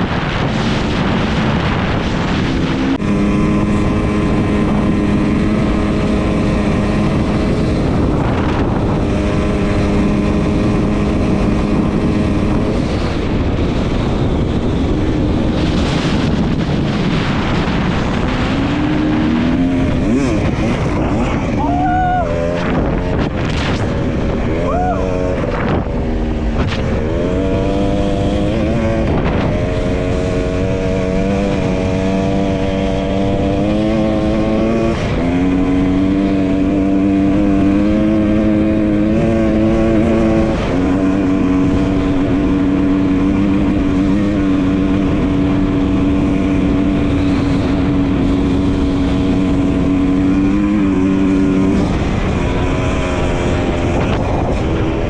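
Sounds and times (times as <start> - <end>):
dirt bike engine revving: 0.0 - 55.0
steady rushing noise: 0.0 - 55.0.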